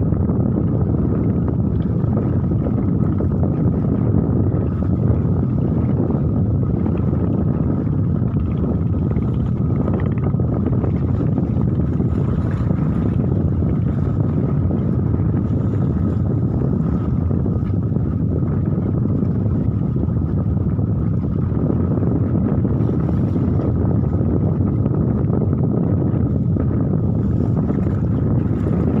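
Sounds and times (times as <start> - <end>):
strong wind buffeting microphone: 0.0 - 29.0.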